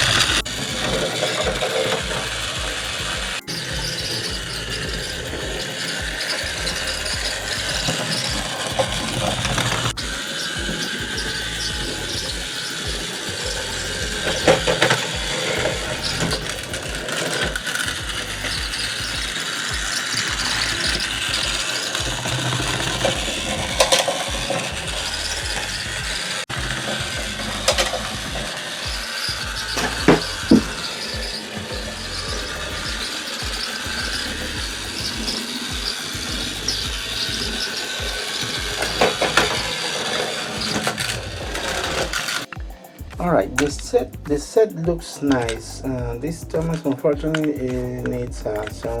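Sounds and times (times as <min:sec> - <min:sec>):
toy train motor whirring: 0:00.0 - 0:49.0.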